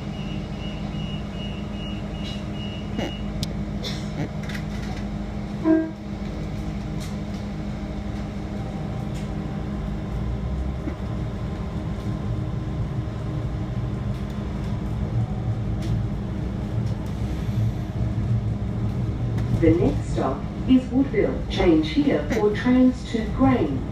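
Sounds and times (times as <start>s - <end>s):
train engine hum: 0.0s - 23.9s
train rolling rumble: 0.0s - 23.9s.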